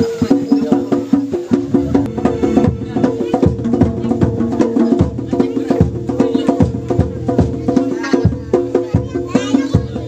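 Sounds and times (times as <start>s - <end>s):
drum strokes: 0.0s - 10.0s.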